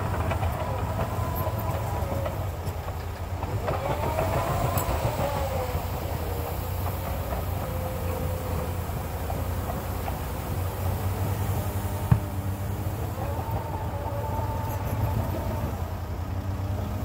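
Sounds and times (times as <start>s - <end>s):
diesel engine running: 0.0s - 17.0s
engine whine: 0.0s - 17.0s.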